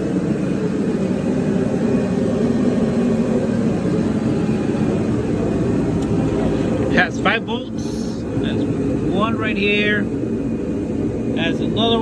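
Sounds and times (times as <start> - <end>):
heater droning: 0.0 - 12.0.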